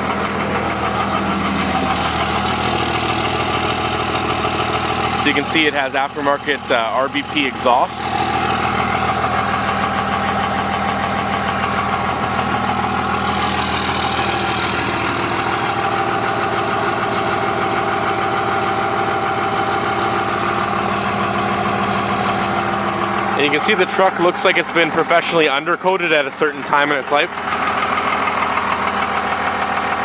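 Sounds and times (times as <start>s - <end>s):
diesel engine idling with clatter: 0.0s - 30.0s.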